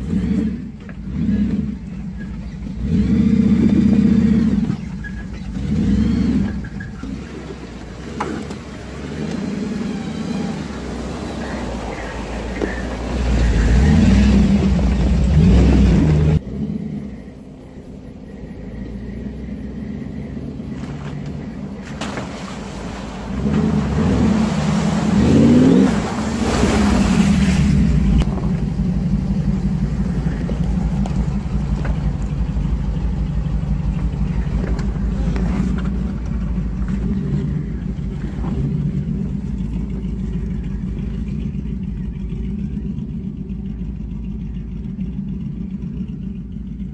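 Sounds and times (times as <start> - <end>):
tyres splashing through muddy water: 0.0 - 17.1, 19.1 - 46.9
engine revving under load: 0.0 - 41.2.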